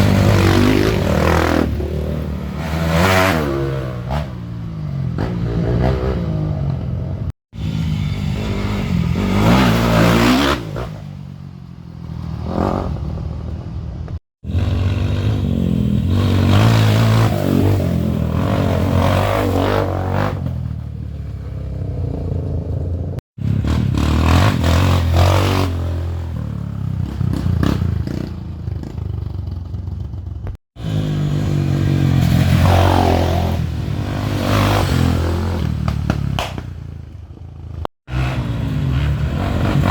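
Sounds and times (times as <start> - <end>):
dirt bike engines revving: 0.0 - 29.6, 30.8 - 36.8, 37.5 - 39.9.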